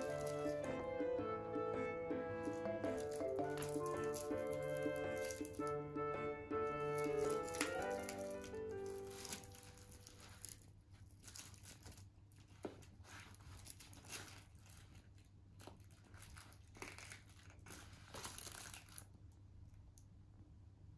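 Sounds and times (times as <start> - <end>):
plush toy crinkling and rustling: 0.0 - 0.8, 2.4 - 5.8, 6.7 - 20.0.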